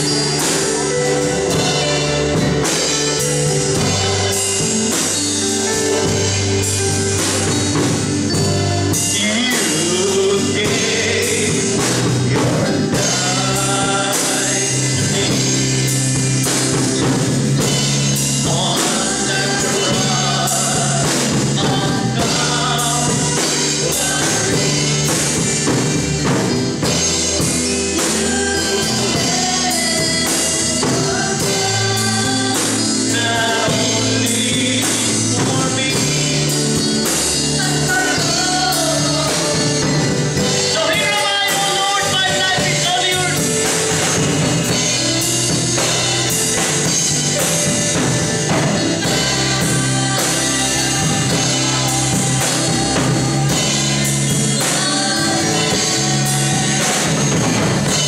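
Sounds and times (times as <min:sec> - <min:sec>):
drums: 0:00.0 - 0:58.0
keyboard: 0:00.0 - 0:58.0
man singing into a microphone: 0:08.3 - 0:15.9, 0:17.6 - 0:25.9, 0:26.8 - 0:45.1, 0:45.8 - 0:58.0.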